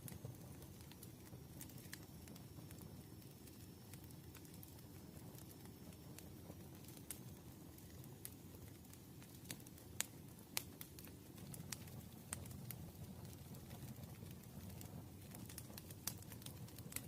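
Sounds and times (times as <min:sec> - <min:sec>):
campfire flames rustling: 0:00.0 - 0:17.0
wood crackling and popping: 0:00.0 - 0:17.0.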